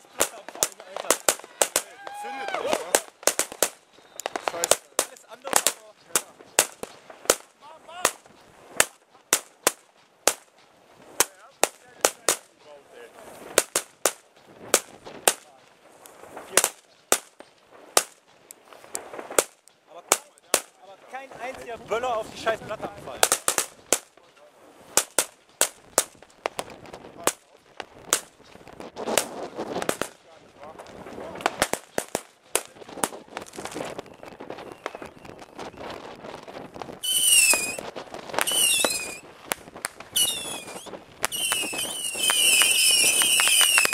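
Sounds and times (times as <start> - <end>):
firecrackers exploding: 0.0 - 43.9
light crackle: 0.0 - 43.9.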